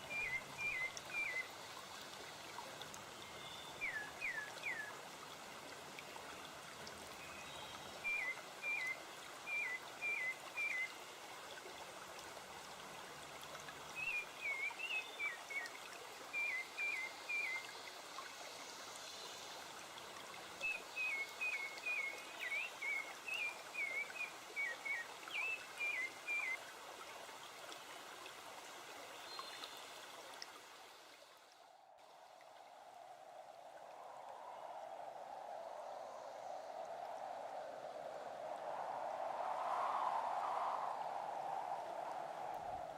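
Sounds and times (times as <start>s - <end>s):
stream running water: 0.0s - 42.9s.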